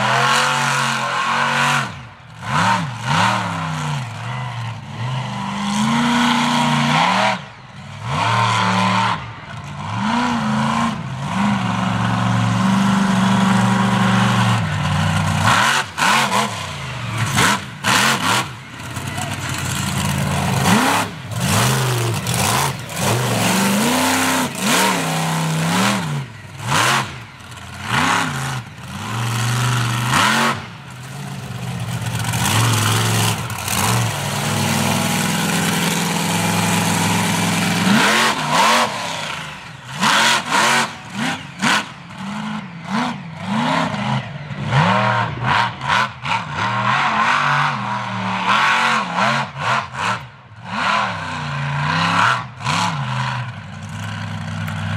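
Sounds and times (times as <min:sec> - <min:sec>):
truck engine revving hard: 0:00.0 - 0:53.6.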